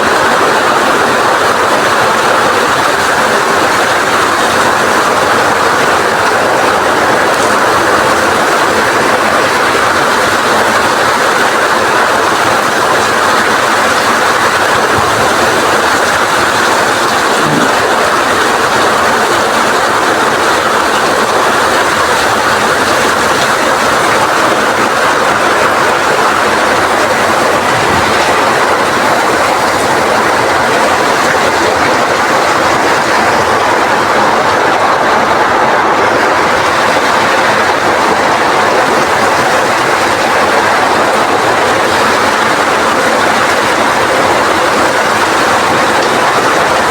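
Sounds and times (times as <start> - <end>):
heavy rain: 0.0 - 46.9
strong wind: 0.0 - 46.9.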